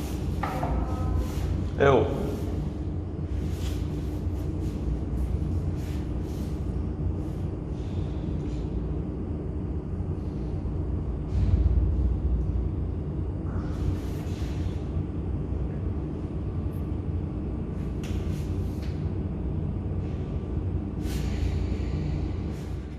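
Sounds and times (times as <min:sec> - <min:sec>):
low machinery hum: 0:00.0 - 0:22.9.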